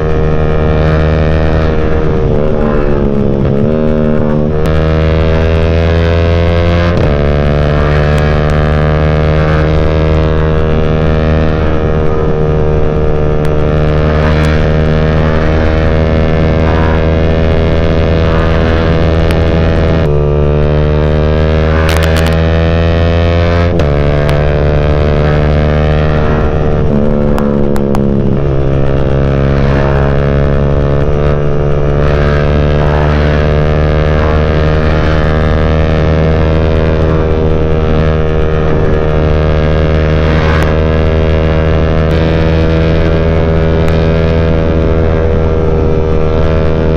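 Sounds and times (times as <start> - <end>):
motorcycle exhaust note: 0.0 - 46.9.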